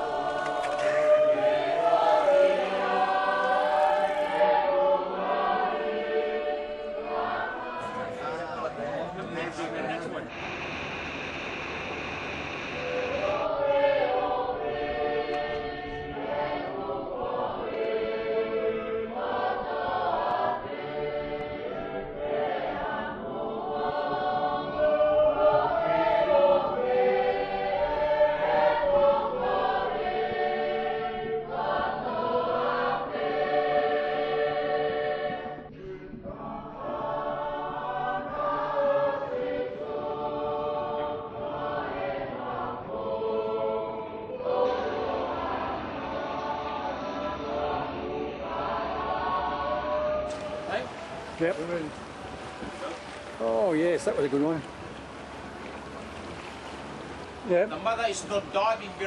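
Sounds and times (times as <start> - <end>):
choir singing in harmony: 0.0 - 10.4, 12.7 - 53.2.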